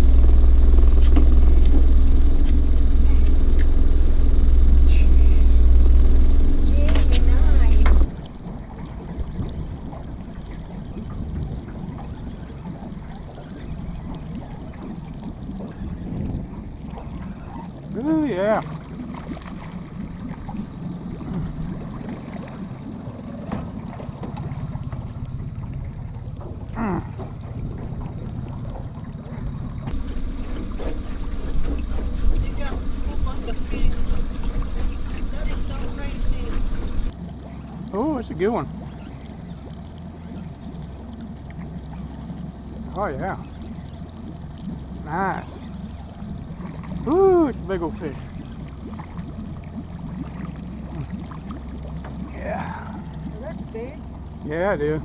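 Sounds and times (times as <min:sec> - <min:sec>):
outboard motor running: 0:00.0 - 0:55.0
water and wind noise: 0:00.0 - 0:55.0.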